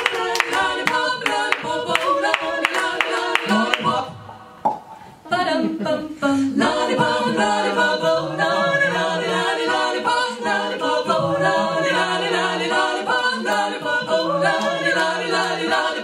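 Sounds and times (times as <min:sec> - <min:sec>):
women singing a cappella harmony: 0:00.0 - 0:16.0.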